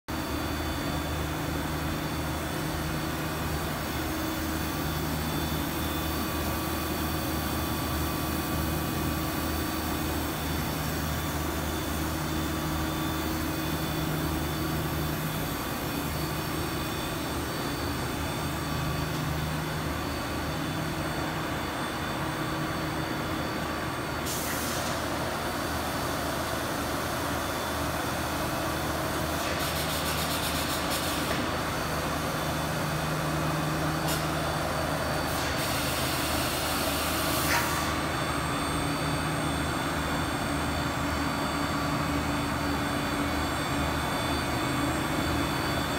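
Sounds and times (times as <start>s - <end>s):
industrial machine hum and drone: 0.1s - 45.9s.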